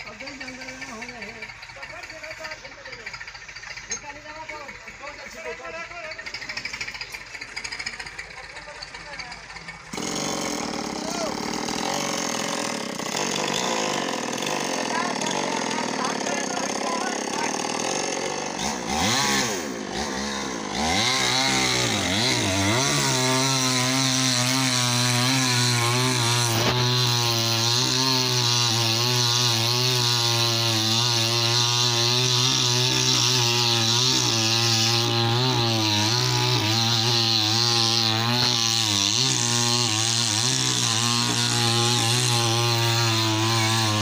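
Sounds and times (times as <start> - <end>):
chainsaw cutting tree: 0.0 - 44.0.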